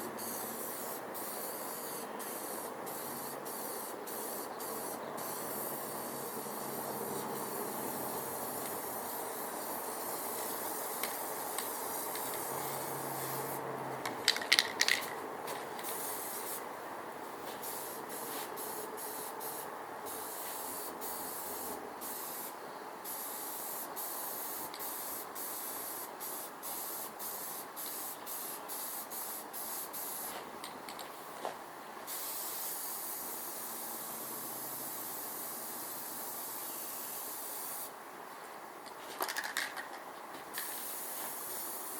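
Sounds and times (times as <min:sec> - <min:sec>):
spray paint hissing: 0:00.0 - 0:16.6, 0:17.4 - 0:30.4, 0:32.1 - 0:38.0, 0:40.5 - 0:41.9.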